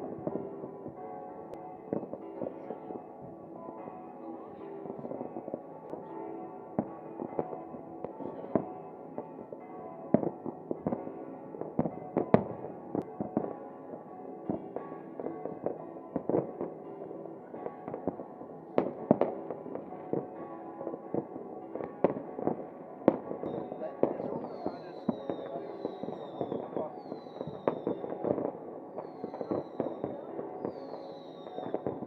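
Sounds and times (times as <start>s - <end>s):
fireworks banging: 0.0s - 32.0s
music with sustained tones: 0.0s - 32.0s.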